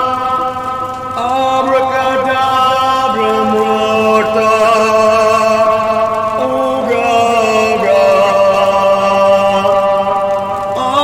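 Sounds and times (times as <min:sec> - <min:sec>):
droning chant-like voices: 0:00.0 - 0:11.0.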